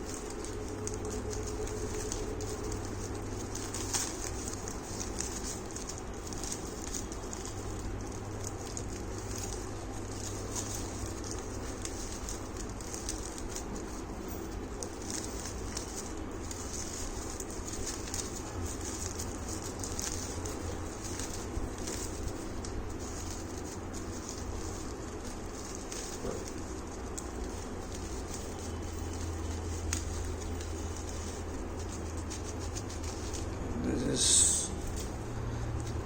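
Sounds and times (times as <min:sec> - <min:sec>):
packaging rustling and crinkling: 0:00.0 - 0:36.0
steady low hum: 0:00.0 - 0:36.0.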